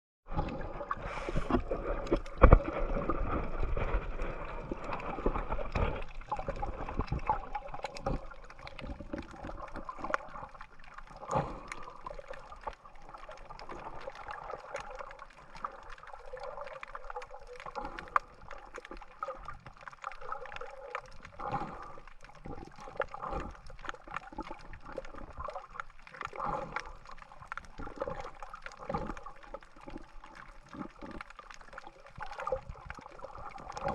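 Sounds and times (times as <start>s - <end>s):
water gurgling and sloshing: 0.2s - 33.9s
small crackling clicks: 4.8s - 33.9s.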